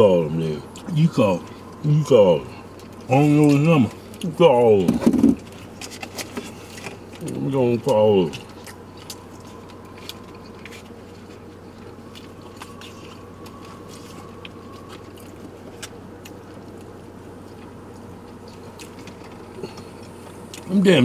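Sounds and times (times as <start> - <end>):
low hum inside car cabin: 0.0 - 21.0
man chewing food: 0.6 - 20.7.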